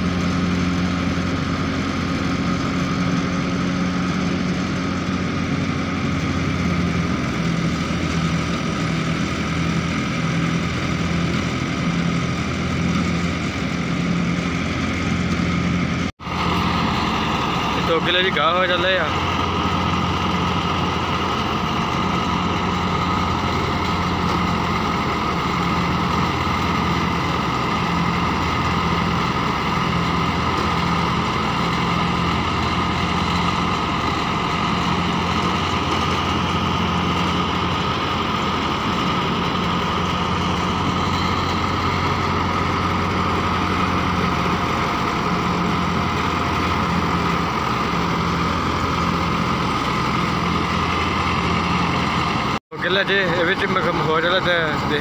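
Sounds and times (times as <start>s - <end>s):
thresher whine: 0.0s - 55.0s
tractor diesel engine running: 0.0s - 55.0s.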